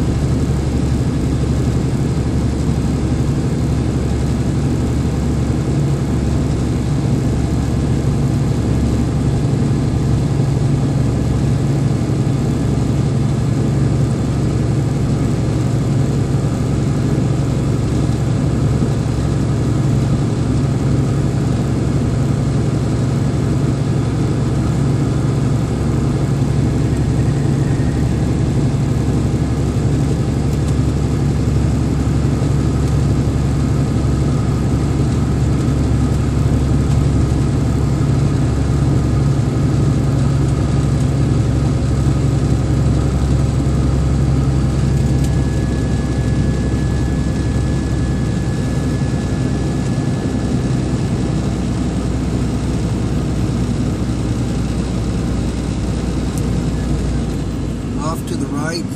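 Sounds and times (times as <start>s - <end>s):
vehicle engine and road noise: 0.0s - 58.9s.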